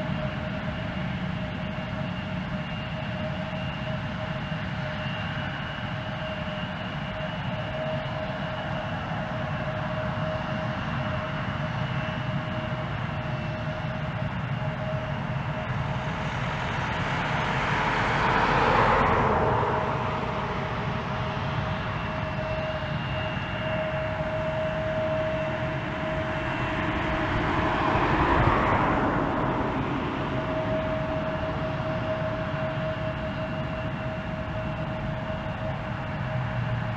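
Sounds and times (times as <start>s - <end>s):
jet engines whining: 0.0s - 36.9s.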